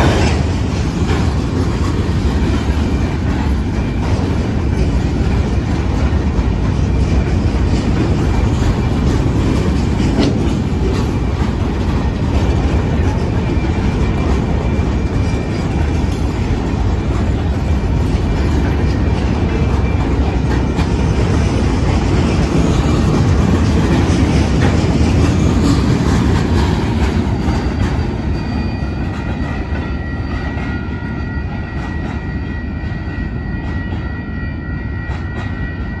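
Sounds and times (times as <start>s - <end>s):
wheels clacking over rail joints: 0.0s - 32.4s
train wheels rumbling on rails: 0.0s - 36.0s.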